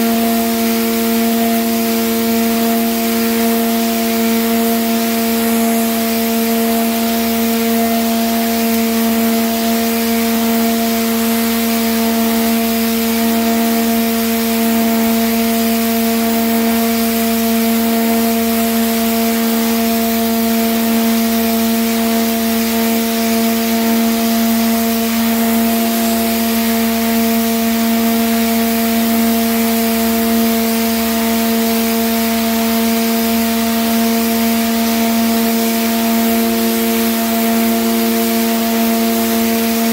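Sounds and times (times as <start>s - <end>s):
pressure washer motor hum: 0.0s - 39.9s.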